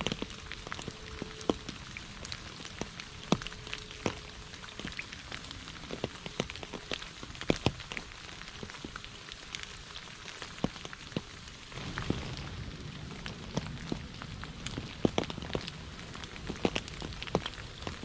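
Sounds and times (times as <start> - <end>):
heavy rain falling: 0.0 - 18.0
sharp ticks of raindrops: 0.0 - 18.0.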